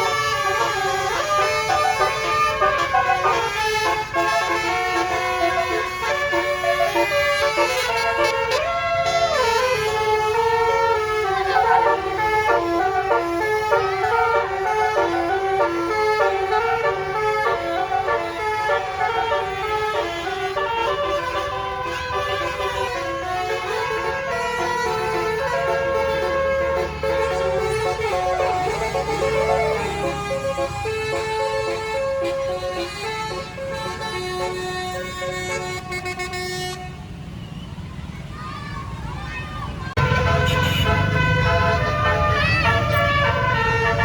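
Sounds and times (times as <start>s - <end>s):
air horn playing melody: 0.0s - 36.9s, 40.0s - 44.0s.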